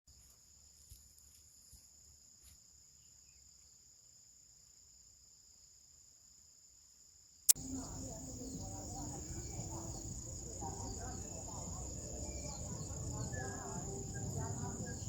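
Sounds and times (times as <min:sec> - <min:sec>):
insect chorus: 0:00.1 - 0:15.0.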